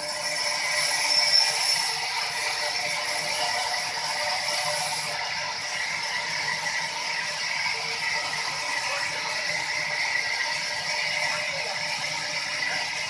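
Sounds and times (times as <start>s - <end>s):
sawmill saw rattling and ringing: 0.0s - 13.0s.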